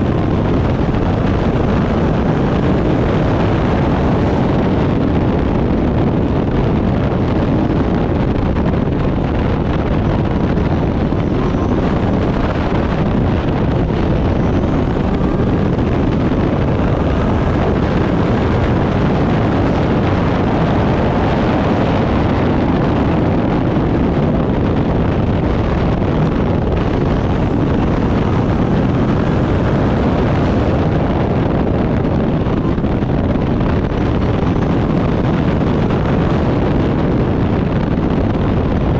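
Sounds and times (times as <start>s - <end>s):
race car engine at speed: 0.0s - 38.9s
wind buffeting microphone: 0.0s - 38.9s.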